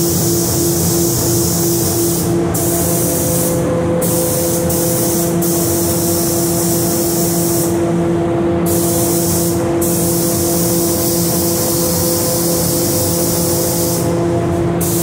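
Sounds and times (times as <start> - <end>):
paint spray gun hissing: 0.0 - 7.8, 8.7 - 14.2, 14.8 - 15.0
steady low hum: 0.0 - 15.0.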